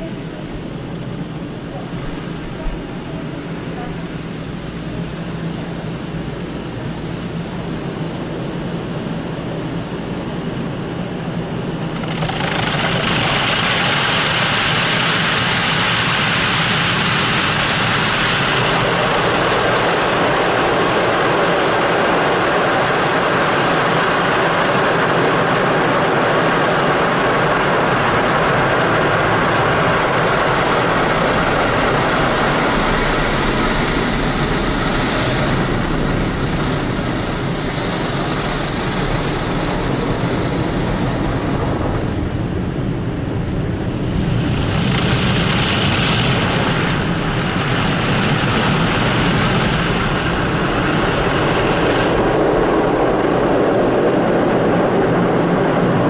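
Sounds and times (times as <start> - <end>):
car wash machine hum: 0.0 - 55.8.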